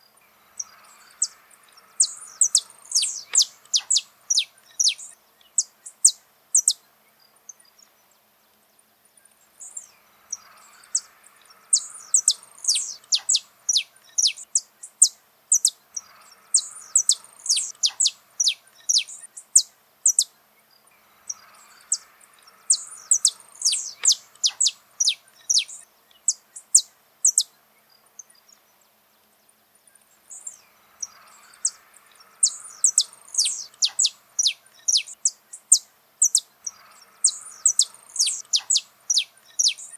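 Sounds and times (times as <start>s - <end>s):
finch singing: 0.2s - 7.8s, 9.6s - 28.8s, 30.0s - 39.9s.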